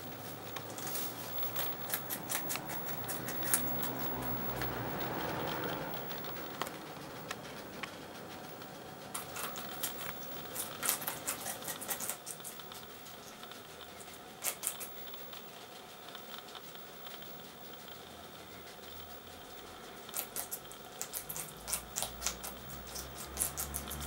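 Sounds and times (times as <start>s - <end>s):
guinea pigs crunching bell pepper: 0.0s - 24.0s.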